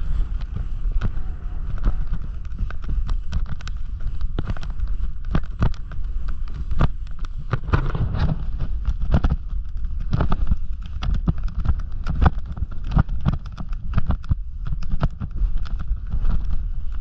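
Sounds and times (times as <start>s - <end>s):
snowboard scraping over snow: 0.0s - 17.0s
wind on microphone: 0.0s - 17.0s.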